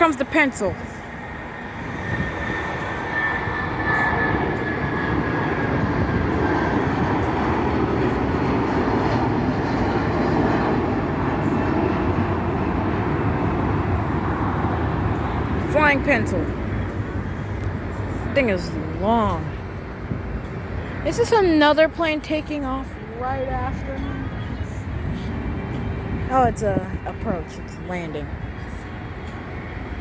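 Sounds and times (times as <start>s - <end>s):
high jet engine whine: 0.0s - 30.0s
jet engine rumble: 0.0s - 30.0s.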